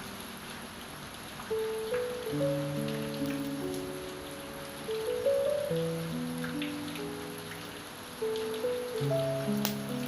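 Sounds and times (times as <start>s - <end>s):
rain pattering: 0.0s - 10.0s
soft slow piano notes: 0.0s - 10.0s.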